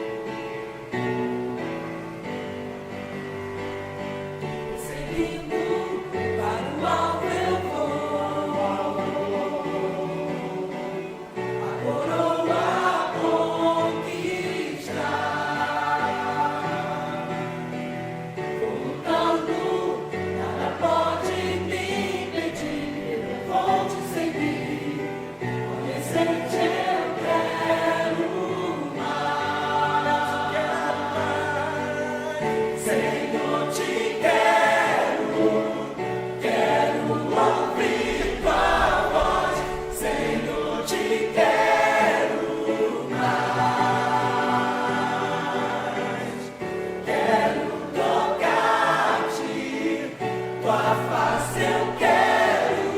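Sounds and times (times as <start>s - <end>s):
choir singing a hymn: 0.0s - 52.9s.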